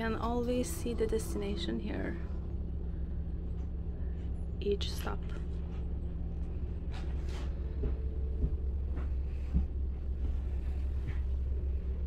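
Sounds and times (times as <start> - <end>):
low hum inside train carriage: 0.0 - 12.0.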